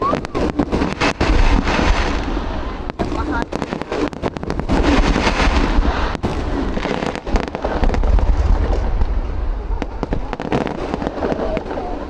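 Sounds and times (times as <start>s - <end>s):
deep rumble of booms: 0.0s - 12.0s
fireworks bangs and crackles: 0.0s - 12.0s.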